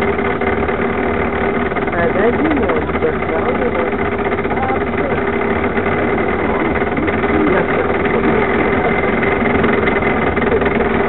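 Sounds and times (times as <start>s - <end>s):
constant hum: 0.0s - 11.0s
wheels rolling over asphalt: 0.0s - 11.0s.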